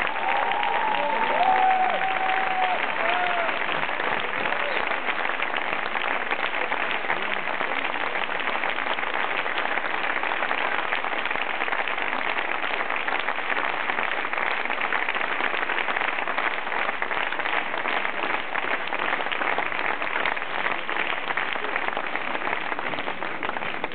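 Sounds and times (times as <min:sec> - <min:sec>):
audience applause: 0:00.0 - 0:23.9.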